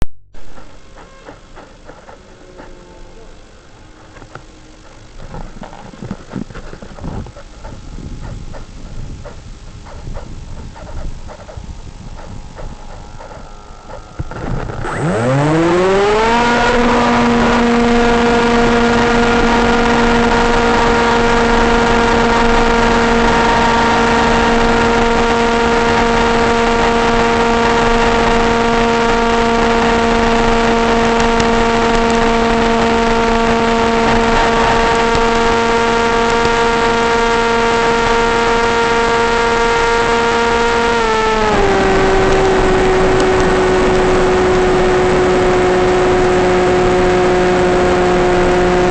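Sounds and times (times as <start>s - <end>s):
electric motor and propeller whine: 0.4s - 48.9s.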